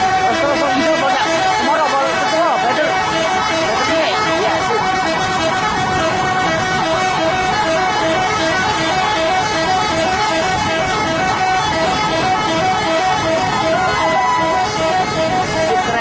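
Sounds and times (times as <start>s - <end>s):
musical bus air horn: 0.0s - 16.0s.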